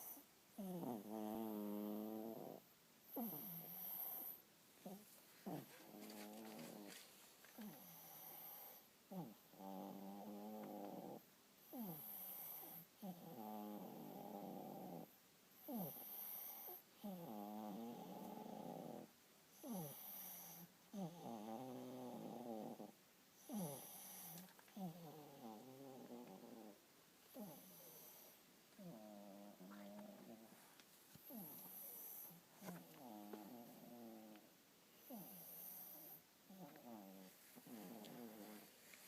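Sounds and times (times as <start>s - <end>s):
pet snoring: 0.0s - 30.6s, 31.2s - 39.0s.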